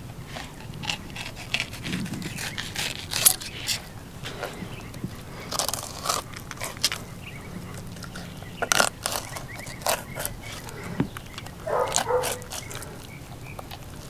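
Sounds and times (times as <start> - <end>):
knife crunching through fish bones: 0.4 - 4.6, 5.3 - 14.0.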